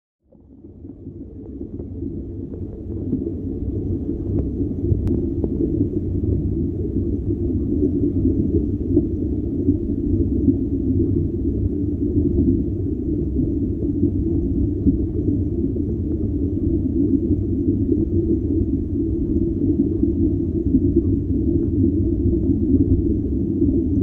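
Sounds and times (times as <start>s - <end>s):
low dense ambient drone: 0.3s - 24.0s.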